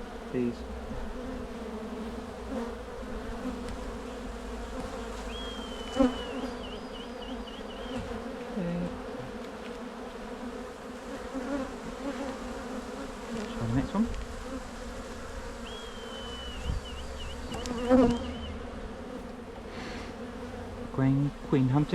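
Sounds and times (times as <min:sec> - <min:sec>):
honey bees humming: 0:00.0 - 0:21.9.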